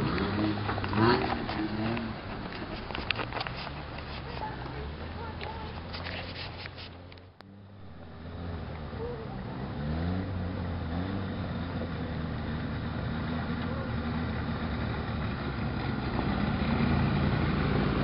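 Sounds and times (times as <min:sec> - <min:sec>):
pickup truck engine revving: 0:00.0 - 0:06.0, 0:07.0 - 0:18.0.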